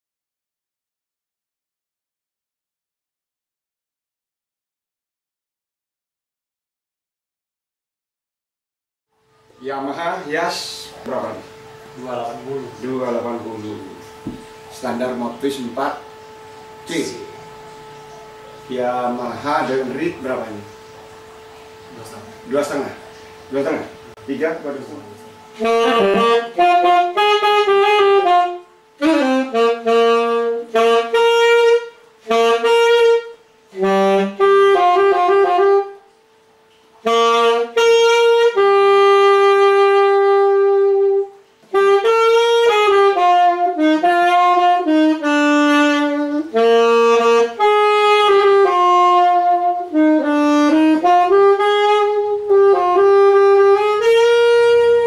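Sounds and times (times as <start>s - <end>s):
saxophone playing slow melody: 9.2s - 55.0s.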